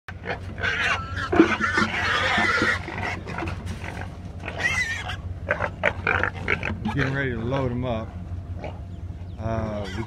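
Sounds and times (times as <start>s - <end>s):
wild hogs squealing: 0.1s - 10.0s.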